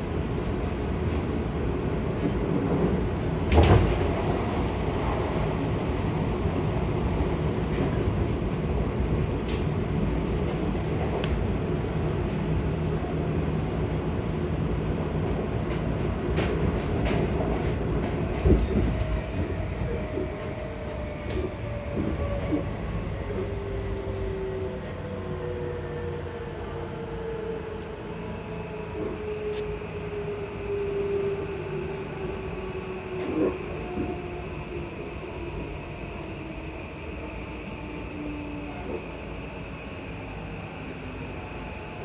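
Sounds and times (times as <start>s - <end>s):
train wheels and motors rumbling: 0.0s - 42.0s.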